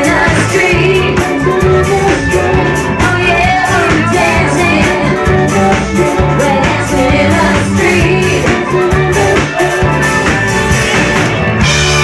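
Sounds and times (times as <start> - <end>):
person singing: 0.0 - 10.3
bass notes: 0.0 - 12.0
electric guitar: 0.0 - 12.0
steady drum beat: 0.0 - 12.0.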